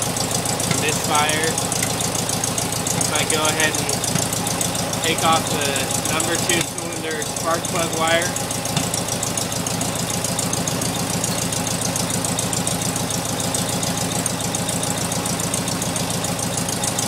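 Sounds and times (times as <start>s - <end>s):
car engine idling with misfire: 0.0s - 17.0s.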